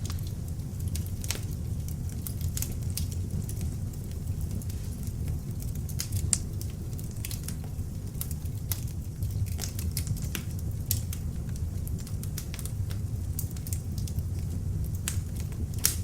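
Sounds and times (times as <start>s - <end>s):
logs crackling and popping: 0.0s - 16.0s
low rumble of flame: 0.0s - 16.0s.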